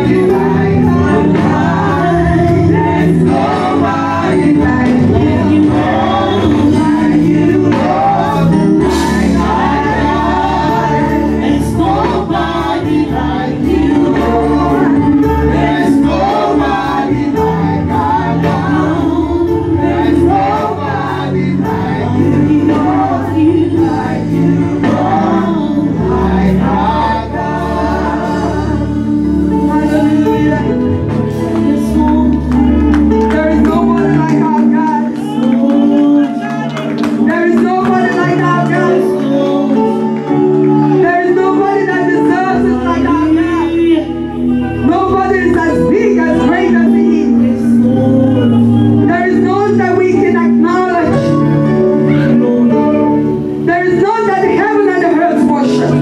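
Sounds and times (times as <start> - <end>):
bass line: 0.0 - 54.7
choir singing gospel: 0.0 - 56.0
live band playing: 0.0 - 56.0.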